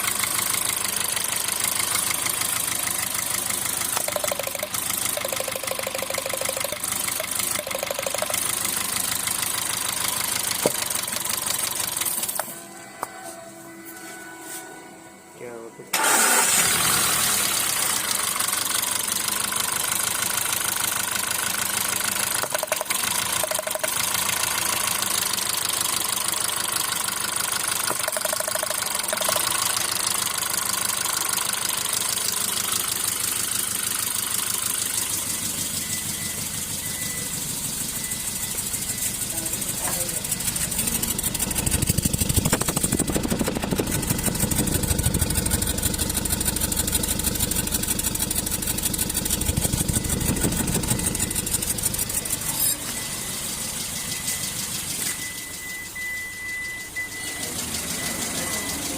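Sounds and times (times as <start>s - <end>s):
car engine idling with misfire: 0.0s - 12.6s, 15.9s - 58.9s.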